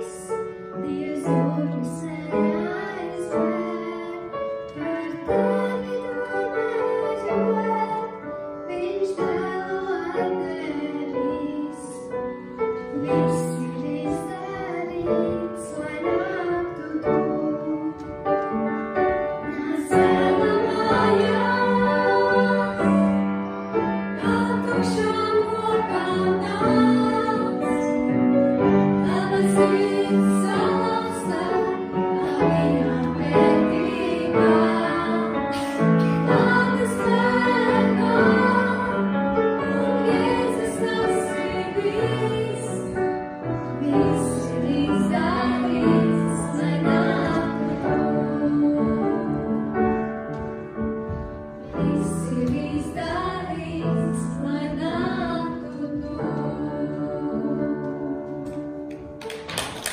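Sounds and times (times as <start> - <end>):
girl and women singing: 0.0 - 12.3, 12.9 - 18.2, 19.4 - 23.2, 24.2 - 28.1, 28.8 - 43.0, 43.7 - 49.7, 51.7 - 59.0
piano accompaniment: 0.0 - 59.9.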